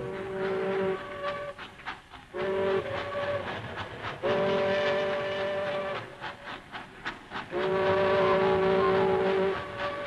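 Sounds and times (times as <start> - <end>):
steam locomotive whistle: 0.0 - 6.6, 7.5 - 10.0
rhythmic steam puffs: 0.0 - 10.0.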